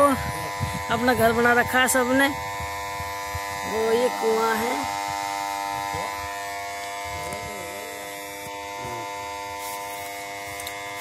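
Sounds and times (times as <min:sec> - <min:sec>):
water pump motor humming: 0:00.0 - 0:11.0.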